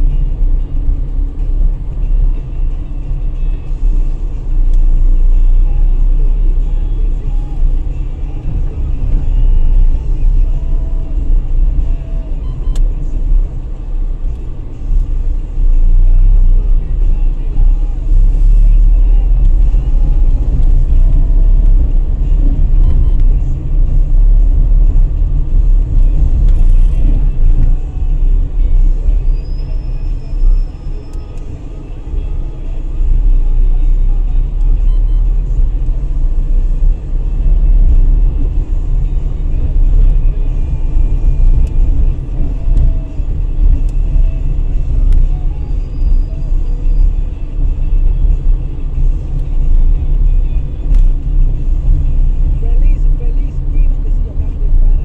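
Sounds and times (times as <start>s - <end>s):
car radio music: 0.0s - 55.0s
low road and engine rumble: 0.0s - 55.0s.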